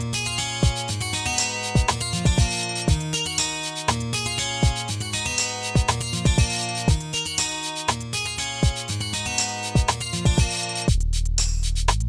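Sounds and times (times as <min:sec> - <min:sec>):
held bass: 0:00.0 - 0:12.0
hi-hat ticks: 0:00.0 - 0:12.0
drum-machine kick hits: 0:00.5 - 0:11.2.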